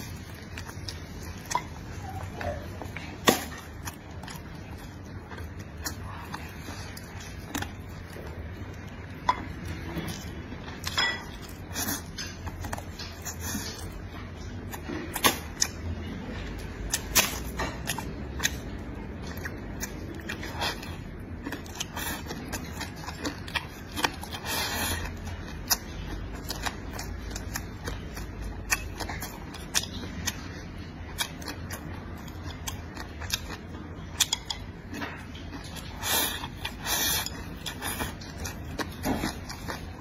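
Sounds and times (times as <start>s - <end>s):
man chewing and smacking: 0.0s - 40.0s.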